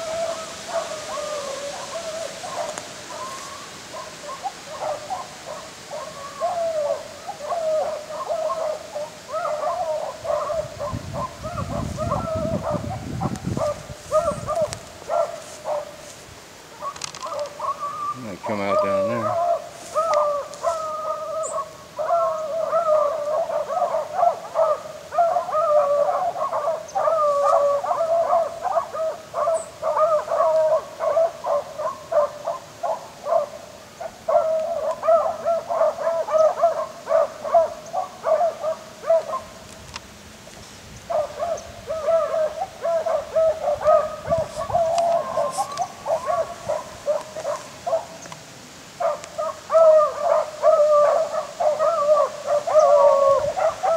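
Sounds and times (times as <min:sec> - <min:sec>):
hounds baying: 0:00.0 - 0:16.2, 0:16.8 - 0:39.6, 0:41.0 - 0:48.3, 0:49.0 - 0:53.9.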